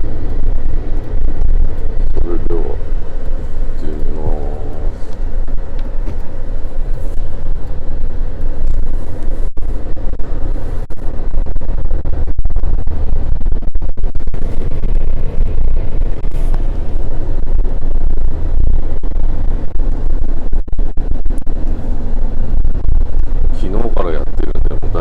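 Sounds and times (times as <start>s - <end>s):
vehicle engine and road rumble: 0.0s - 25.0s.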